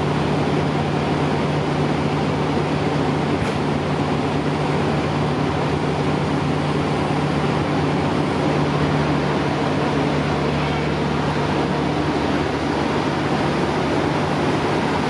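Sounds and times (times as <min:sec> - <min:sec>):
diesel train engine droning: 0:00.0 - 0:15.0.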